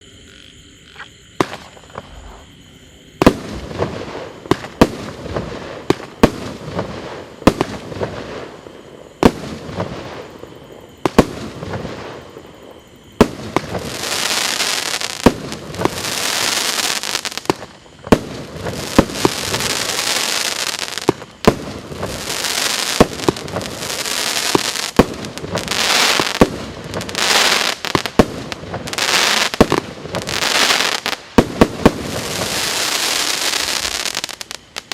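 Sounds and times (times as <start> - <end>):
fireworks bangs: 1.4 - 2.4, 3.2 - 8.6, 9.2 - 34.9
fireworks crackling: 1.4 - 2.4, 3.2 - 34.9.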